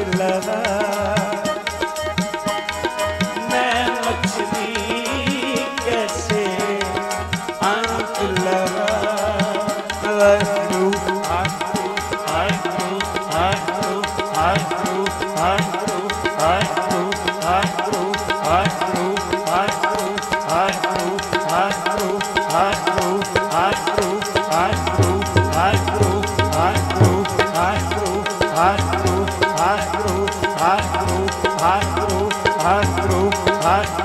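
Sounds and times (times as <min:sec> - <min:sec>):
harmonium playing sustained chords: 0:00.0 - 0:34.0
tabla steady beat: 0:00.0 - 0:34.0.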